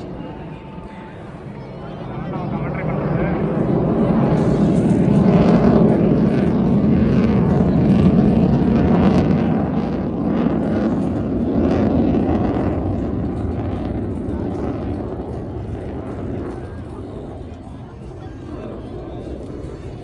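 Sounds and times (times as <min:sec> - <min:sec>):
jet aircraft flying past: 0:00.0 - 0:20.0.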